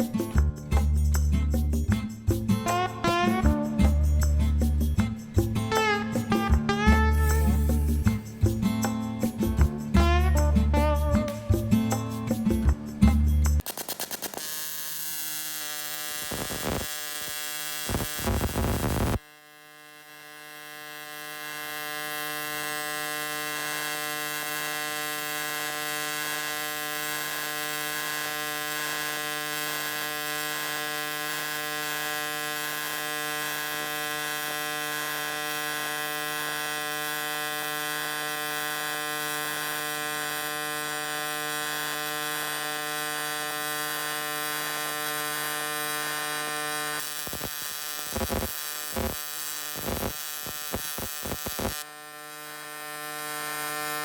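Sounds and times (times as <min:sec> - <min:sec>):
welding arc buzzing hum: 0:00.0 - 0:12.5, 0:13.6 - 0:54.0.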